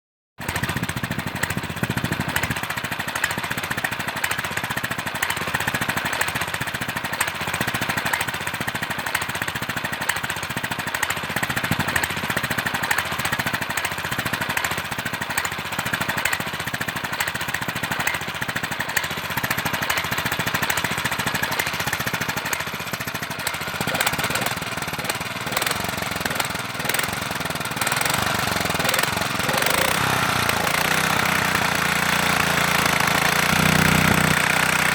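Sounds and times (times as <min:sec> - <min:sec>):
petrol engine running: 0:00.4 - 0:34.9.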